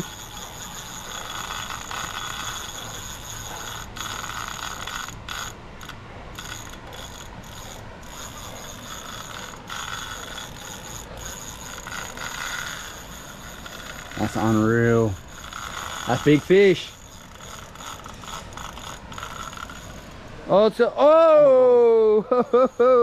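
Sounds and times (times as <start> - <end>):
fishing reel ratcheting whir: 0.0 - 20.2.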